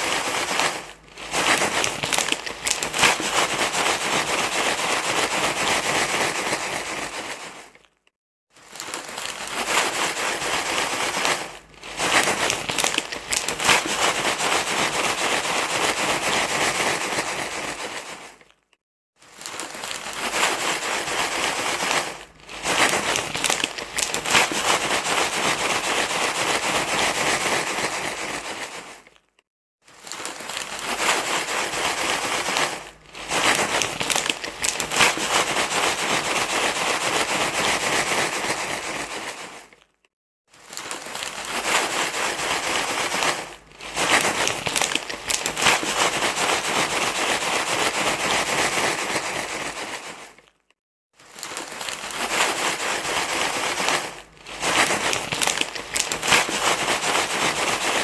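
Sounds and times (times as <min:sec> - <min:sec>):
material rustling and crinkling: 0:00.0 - 0:58.0.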